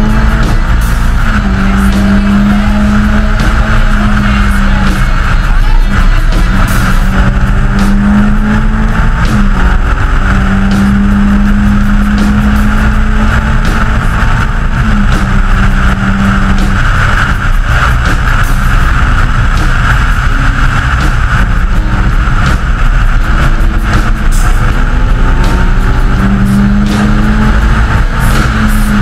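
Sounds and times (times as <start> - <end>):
car engine pulling steady: 0.0 - 29.0
wind rushing: 0.0 - 29.0.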